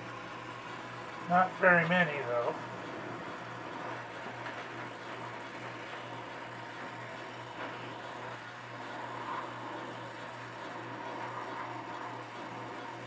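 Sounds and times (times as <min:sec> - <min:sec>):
low steady hum: 0:00.0 - 0:13.0
torch flame hissing: 0:00.0 - 0:13.0.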